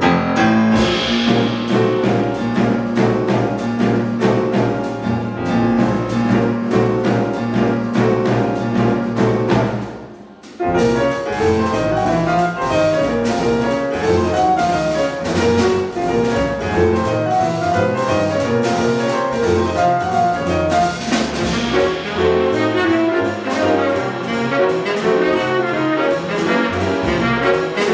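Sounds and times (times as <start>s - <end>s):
double bass: 0.0s - 27.9s
drums: 0.0s - 27.9s
piano: 0.0s - 27.9s.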